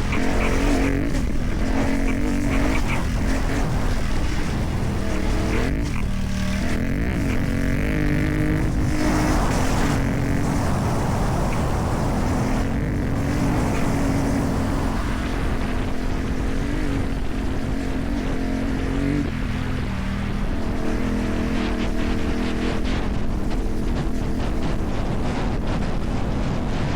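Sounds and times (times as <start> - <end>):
motorcycle engine running: 0.0 - 26.9
rushing wind noise: 0.0 - 26.9.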